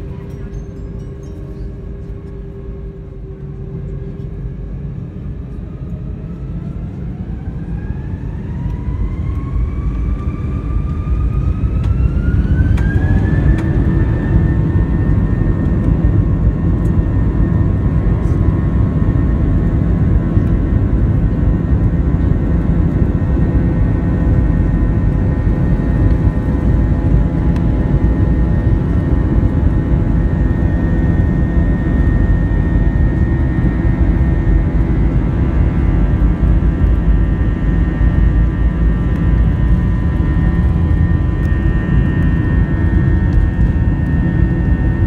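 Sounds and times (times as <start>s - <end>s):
takeoff roll rumble: 0.0s - 45.0s.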